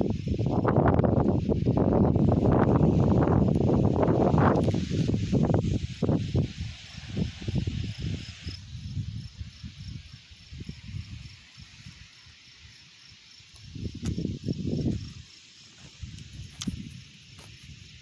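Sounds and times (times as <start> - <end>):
cricket chirping: 0.0 - 18.0
wind rumbling on microphone: 0.0 - 18.0.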